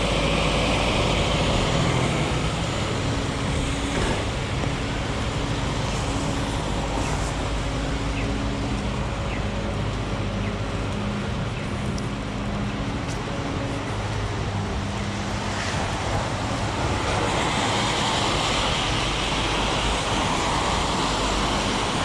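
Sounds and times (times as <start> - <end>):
heavy rain: 0.0 - 22.0
passing traffic: 0.0 - 22.0
vehicle engine hum: 0.0 - 22.0.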